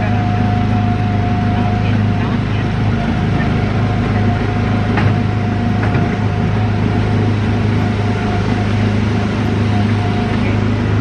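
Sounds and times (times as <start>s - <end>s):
small gasoline engine humming: 0.0s - 11.0s.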